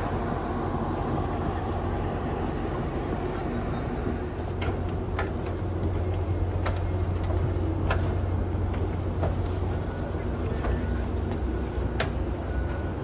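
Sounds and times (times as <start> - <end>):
train hum and rumble: 0.0 - 13.0.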